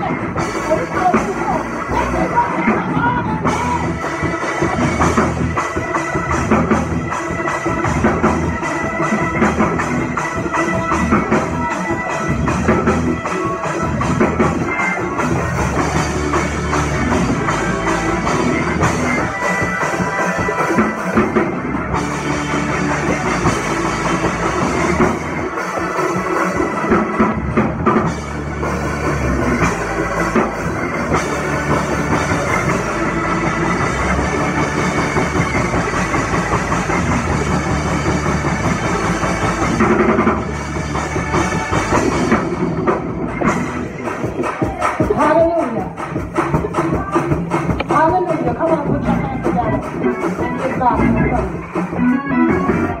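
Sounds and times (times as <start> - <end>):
drum kit beat: 0.0 - 53.0
electric organ playing fast chords: 0.0 - 53.0.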